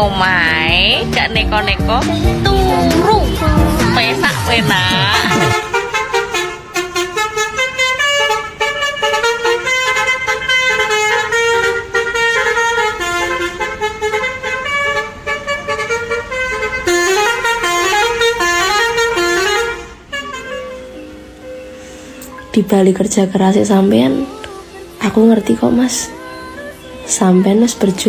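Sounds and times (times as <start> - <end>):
bus musical horn playing a tune: 0.0 - 27.9.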